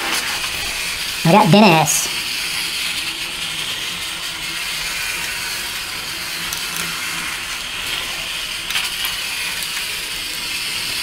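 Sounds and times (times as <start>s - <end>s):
toy train motor whirring: 0.0s - 1.2s, 2.1s - 11.0s.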